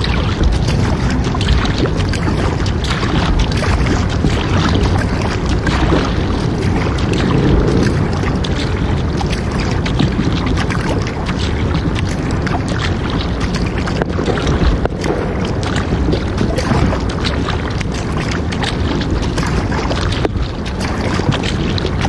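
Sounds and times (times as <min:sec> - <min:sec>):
water splashing: 0:00.0 - 0:22.0
wind on microphone: 0:00.0 - 0:22.0.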